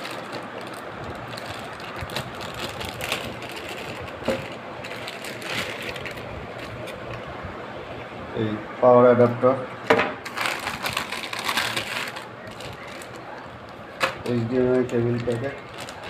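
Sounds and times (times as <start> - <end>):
plastic bag crinkling: 0.0 - 7.2, 10.2 - 16.0
steady background hiss: 0.0 - 16.0.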